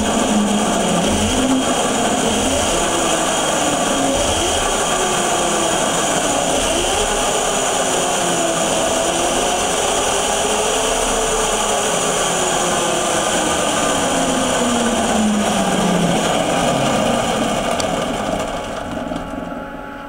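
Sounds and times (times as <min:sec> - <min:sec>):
electric motor whine: 0:00.0 - 0:20.0
steady high hum: 0:00.0 - 0:20.0.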